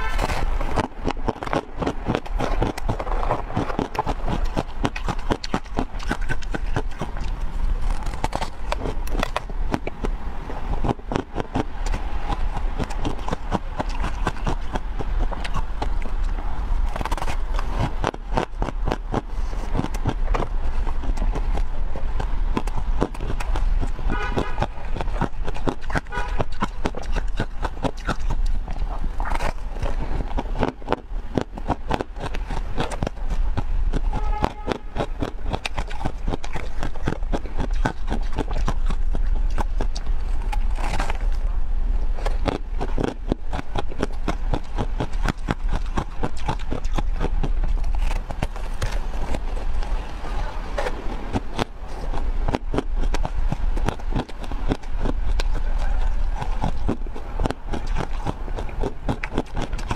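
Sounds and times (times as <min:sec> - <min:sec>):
chewing crunchy food: 0:00.0 - 0:10.1, 0:10.7 - 0:59.9.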